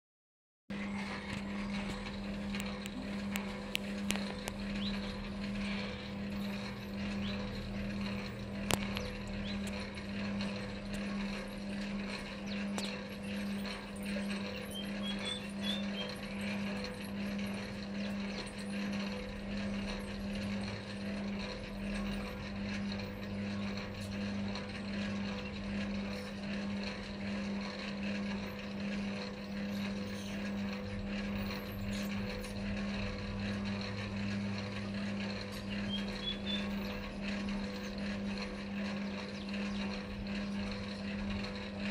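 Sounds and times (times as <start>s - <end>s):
pulsing machine hum: 0.7s - 41.9s.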